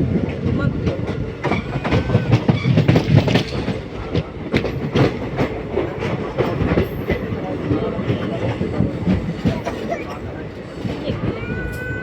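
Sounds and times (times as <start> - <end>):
wheels clattering over rail joints: 0.0 - 11.4
train rumbling: 0.0 - 12.0.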